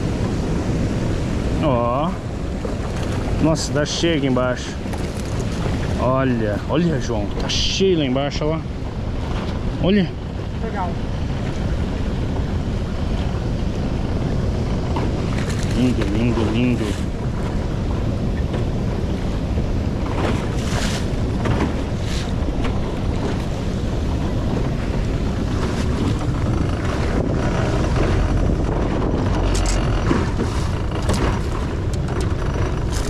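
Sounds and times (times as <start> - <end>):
water moving against boat: 0.0 - 33.0
wind buffeting microphone: 0.0 - 33.0.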